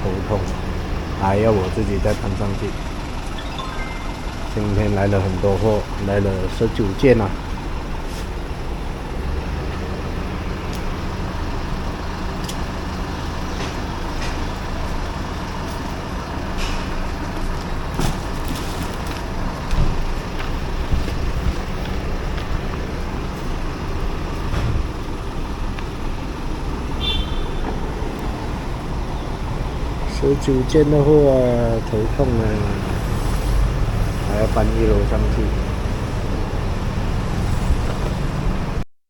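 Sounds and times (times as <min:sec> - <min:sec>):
truck engine idling: 0:00.0 - 0:37.4.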